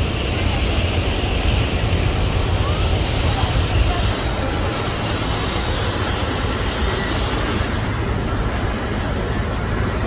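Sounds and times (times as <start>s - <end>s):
low rumble and hiss of buses: 0.0s - 10.0s.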